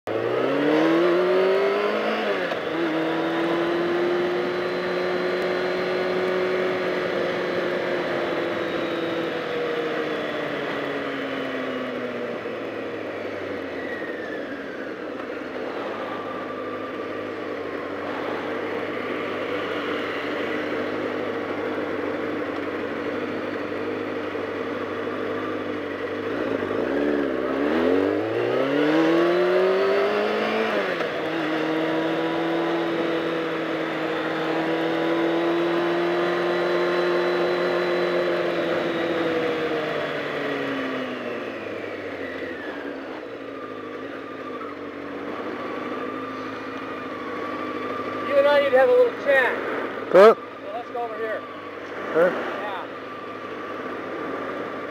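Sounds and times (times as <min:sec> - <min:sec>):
motorcycle engine idling and revving: 0:00.0 - 0:54.9.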